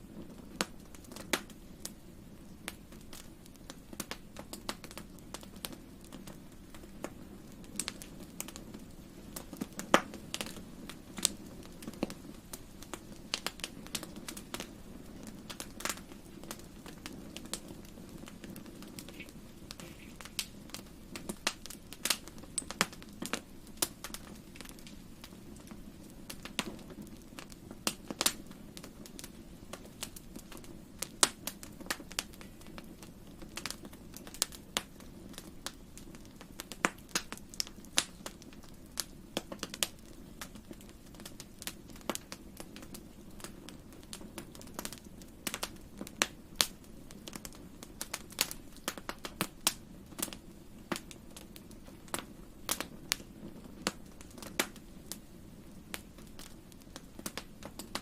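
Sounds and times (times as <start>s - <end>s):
low rumble of burning logs: 0.0s - 58.0s
wood fire crackling: 0.0s - 58.0s.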